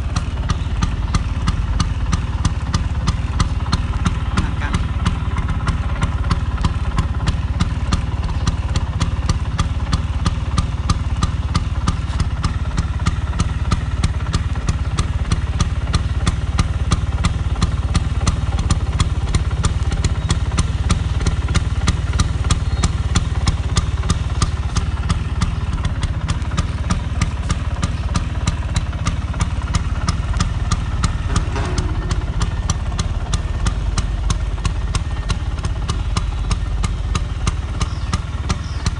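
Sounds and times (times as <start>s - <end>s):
scooter engine idling: 0.0s - 38.9s.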